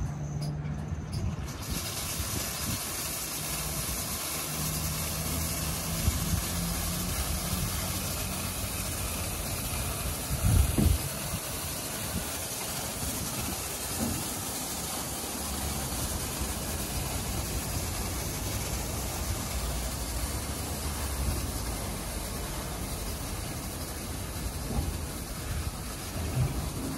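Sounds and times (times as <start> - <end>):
car wash brushes spinning: 1.1 - 26.9
water spraying with a hiss: 1.2 - 26.9.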